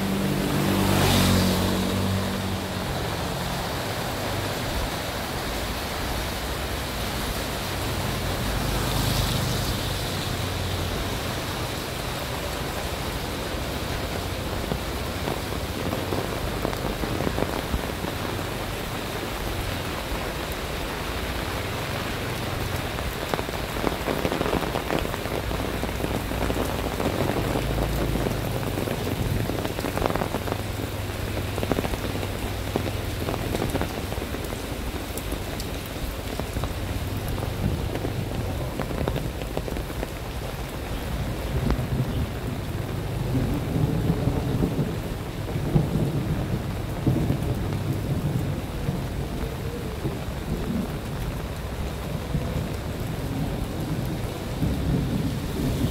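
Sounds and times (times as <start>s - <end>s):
rain on wet pavement: 0.0s - 55.9s.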